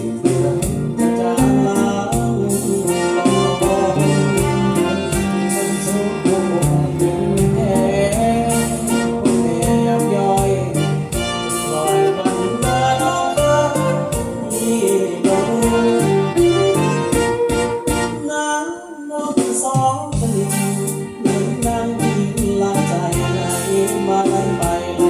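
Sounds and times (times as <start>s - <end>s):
steady drum beat: 0.0s - 18.2s, 19.4s - 25.0s
acoustic guitar: 0.0s - 25.0s
band backing track: 0.0s - 25.0s.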